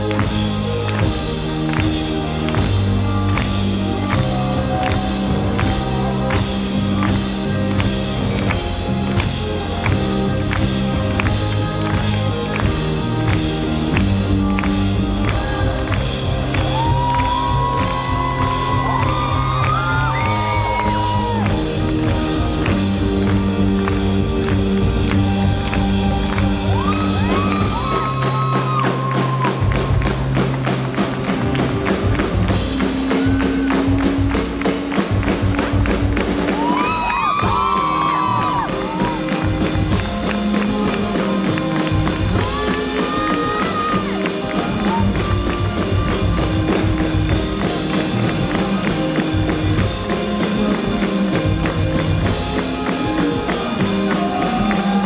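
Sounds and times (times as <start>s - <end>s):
drum beat: 0.0s - 55.0s
live rock band playing: 0.0s - 55.0s.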